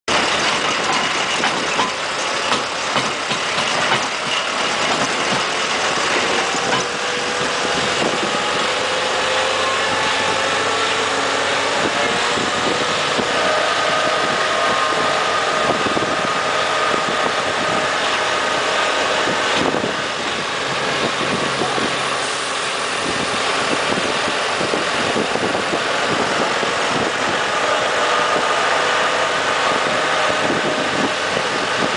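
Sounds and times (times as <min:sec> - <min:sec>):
road and wind noise: 0:00.1 - 0:31.9
tractor engine whining: 0:00.1 - 0:31.9.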